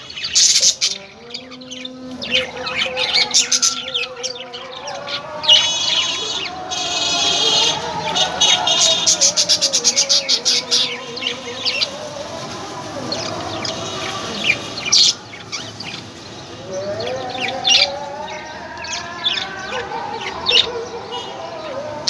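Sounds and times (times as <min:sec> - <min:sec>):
parrots chirping: 0:00.0 - 0:21.3.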